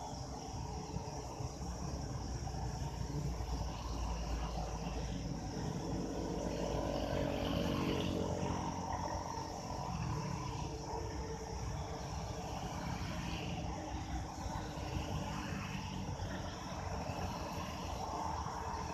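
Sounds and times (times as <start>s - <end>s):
distant vehicle engine hum: 0.0s - 18.9s.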